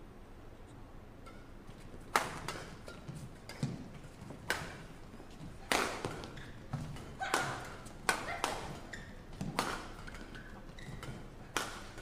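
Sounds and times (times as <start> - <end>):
badminton racket hitting shuttlecock: 1.2 - 12.0.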